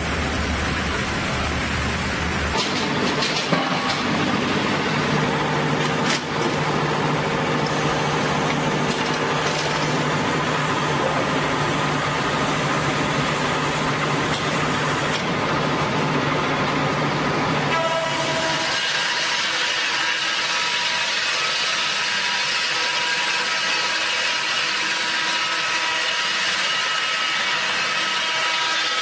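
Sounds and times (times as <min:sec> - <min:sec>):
sawmill machinery running: 0:00.0 - 0:29.0.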